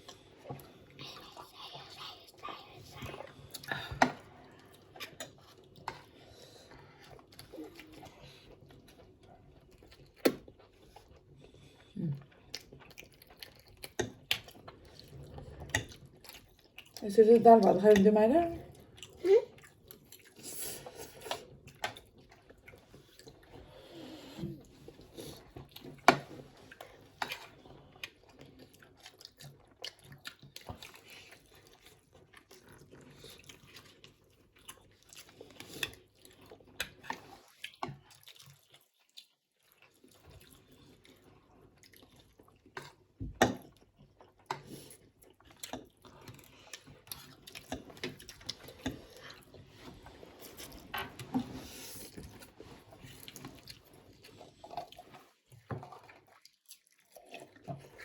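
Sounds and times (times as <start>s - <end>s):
slurping and chewing noodles: 0.0s - 17.0s, 18.6s - 58.0s.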